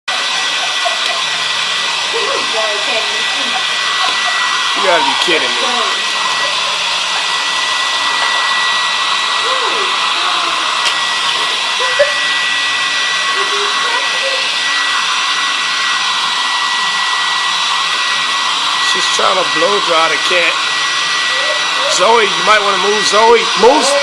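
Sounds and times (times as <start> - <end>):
blow dryer running: 0.1 - 24.0.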